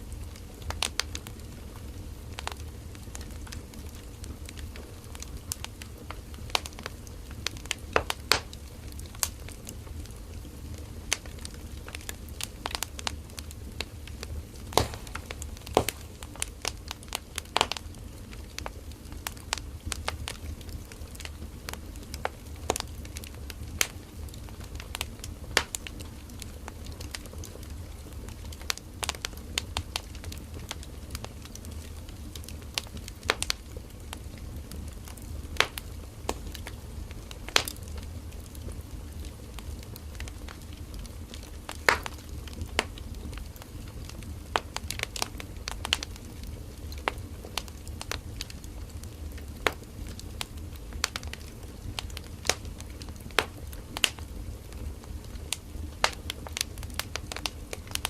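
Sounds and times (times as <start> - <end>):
firewood crackling and popping: 0.0 - 58.0
flames rumbling: 0.0 - 58.0.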